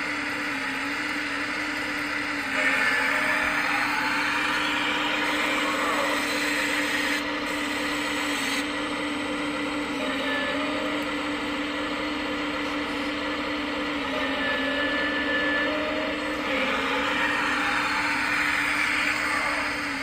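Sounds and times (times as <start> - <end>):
hydraulic pump whine: 0.0 - 20.0.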